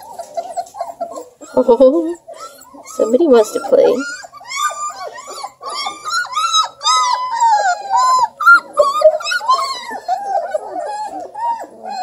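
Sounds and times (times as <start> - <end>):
puppies whining and crying: 0.0 - 12.0.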